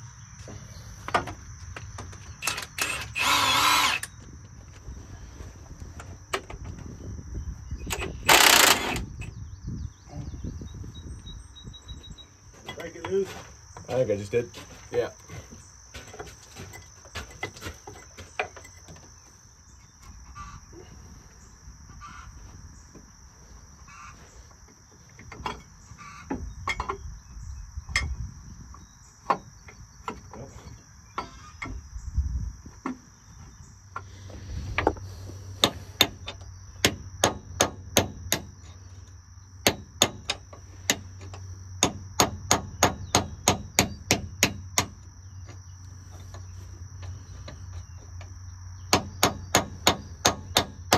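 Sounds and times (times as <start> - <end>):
insect chirring: 0.0 - 5.0, 5.9 - 50.9.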